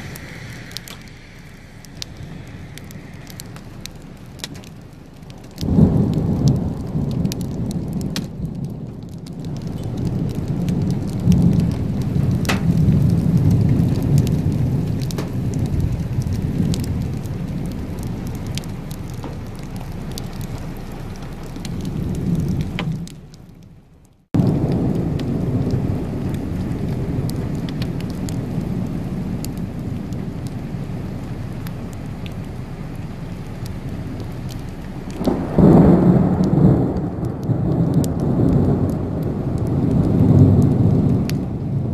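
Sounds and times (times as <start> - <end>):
low rolling thunder: 0.0 - 23.4, 24.4 - 32.7, 33.4 - 41.9
rain falling: 0.0 - 41.9.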